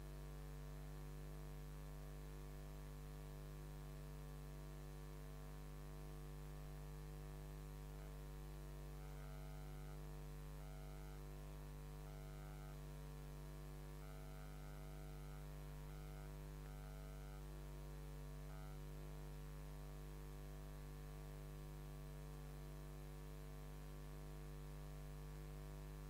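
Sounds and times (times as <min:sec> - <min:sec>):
electrical mains hum: 0:04.0 - 0:26.0.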